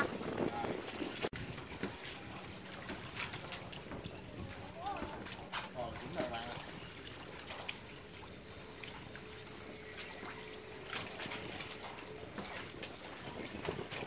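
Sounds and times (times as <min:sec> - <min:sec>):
river water lapping and trickling: 0:00.0 - 0:14.0
small splashes: 0:00.0 - 0:14.0.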